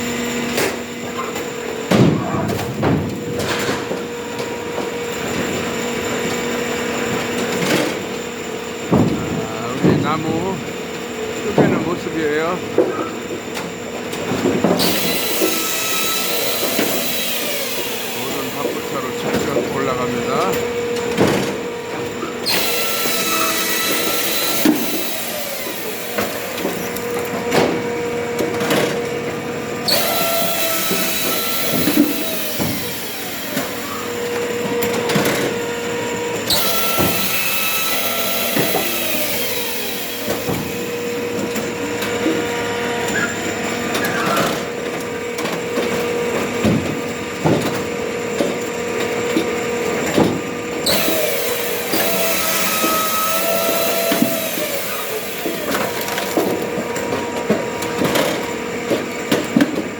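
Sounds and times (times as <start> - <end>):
firewood splitter running: 0.0 - 59.9.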